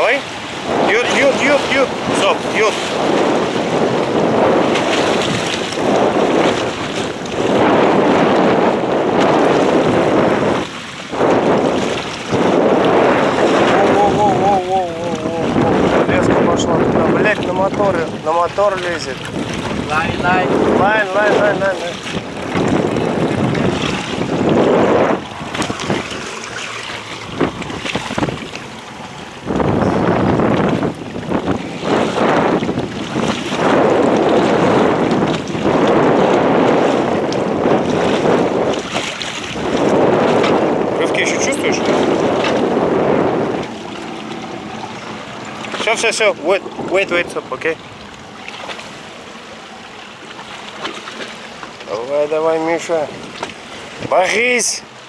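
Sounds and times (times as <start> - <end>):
sea washing around boat: 0.0 - 55.0
wind buffeting microphone: 0.0 - 55.0.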